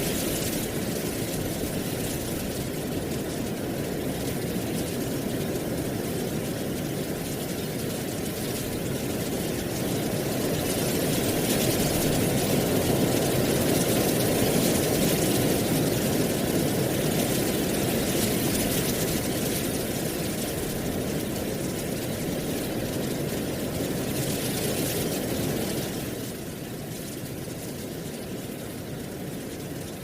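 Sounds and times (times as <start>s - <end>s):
wind blowing through dry leaves: 0.0s - 30.0s.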